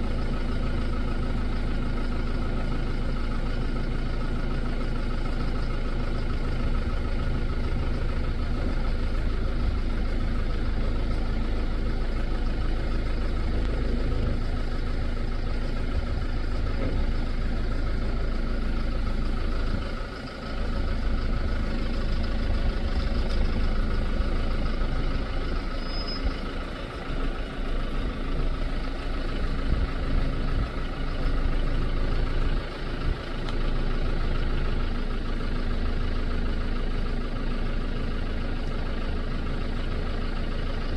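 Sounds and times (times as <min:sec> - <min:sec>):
vehicle engine idling: 0:00.0 - 0:40.9.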